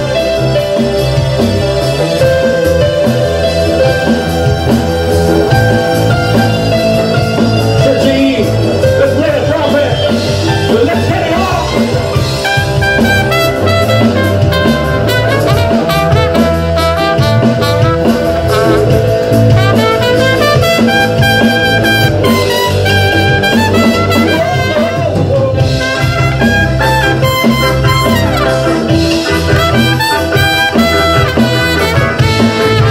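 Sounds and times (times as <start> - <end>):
bass: 0.0 - 32.9
drums: 0.0 - 32.9
electric guitar: 0.0 - 32.9
trumpet melody: 0.0 - 32.9.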